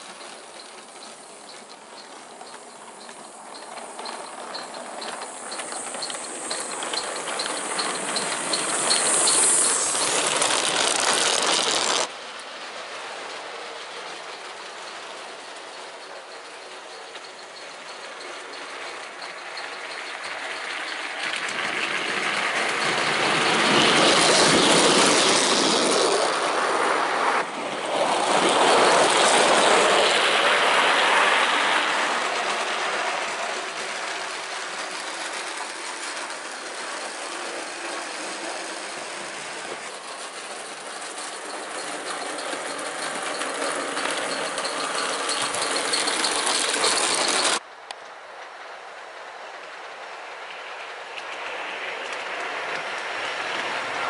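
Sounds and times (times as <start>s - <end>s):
model train wheels clattering on rails: 0.0s - 48.5s, 49.6s - 54.0s.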